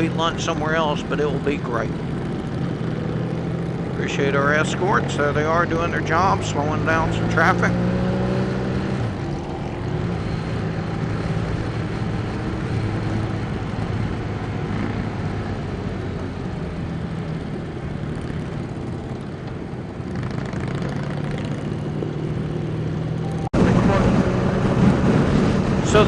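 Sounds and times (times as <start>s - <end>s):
motorcycle engines droning: 0.0s - 26.0s
road and wind noise: 0.0s - 26.0s.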